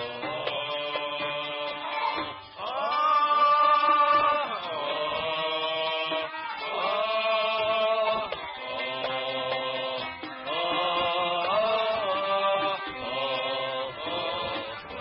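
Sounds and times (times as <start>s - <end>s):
man singing long notes: 0.0s - 15.0s.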